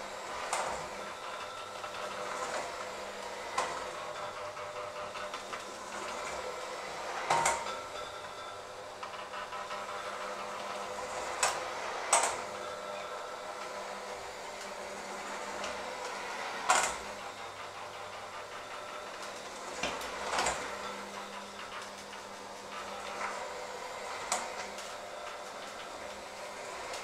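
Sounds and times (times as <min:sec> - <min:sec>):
electric hand mixer running: 0:00.0 - 0:27.0.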